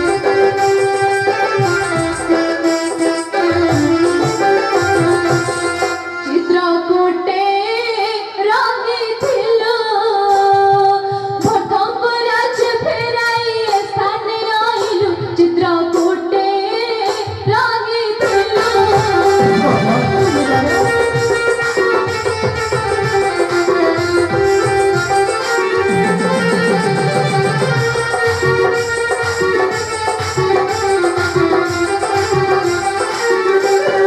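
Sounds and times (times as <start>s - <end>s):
instrumental accompaniment: 0.0s - 34.0s.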